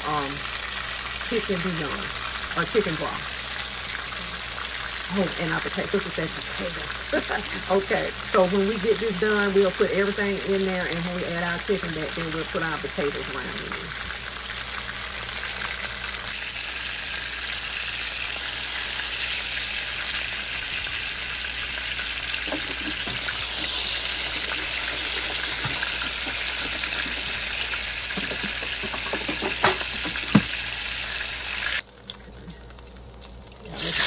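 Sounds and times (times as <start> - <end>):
chicken sizzling in a pan: 0.0 - 34.0.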